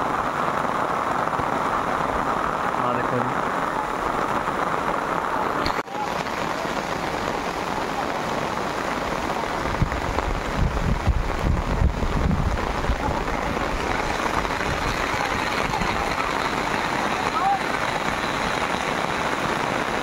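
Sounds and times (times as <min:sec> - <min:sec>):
heavy rain on ground: 0:00.0 - 0:20.0.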